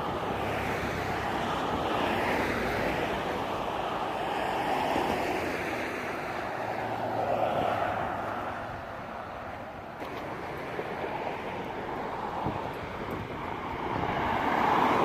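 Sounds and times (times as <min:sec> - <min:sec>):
ocean surf washing in: 0:00.0 - 0:08.2, 0:10.2 - 0:15.0
wind buffeting microphone: 0:00.0 - 0:15.0.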